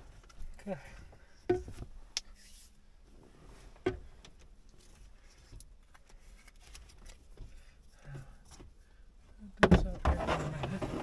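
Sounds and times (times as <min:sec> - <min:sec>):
faint rustling of wires: 0:00.0 - 0:11.0.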